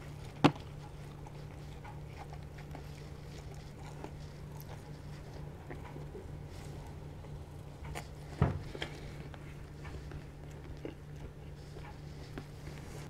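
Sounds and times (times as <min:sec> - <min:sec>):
person chewing: 0:00.0 - 0:13.0
steady low hum: 0:00.0 - 0:13.0.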